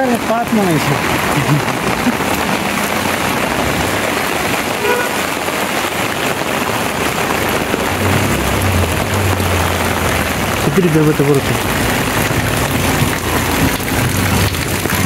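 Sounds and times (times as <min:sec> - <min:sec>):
heavy rain on wet street: 0:00.0 - 0:15.0.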